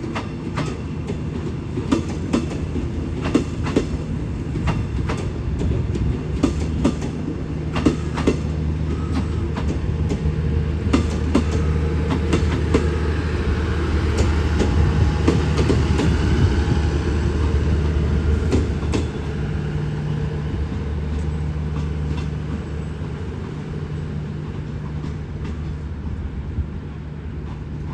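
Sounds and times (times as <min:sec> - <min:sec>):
train engine drone: 0:00.0 - 0:27.9.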